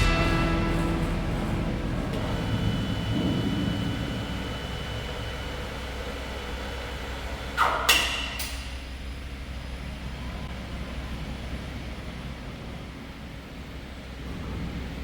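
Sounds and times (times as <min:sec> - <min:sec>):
low rumble of machinery: 0:00.0 - 0:15.0.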